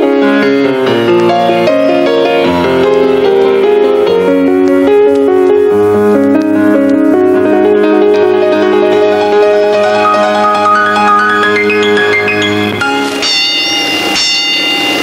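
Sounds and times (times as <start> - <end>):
piano music: 0.0 - 14.4.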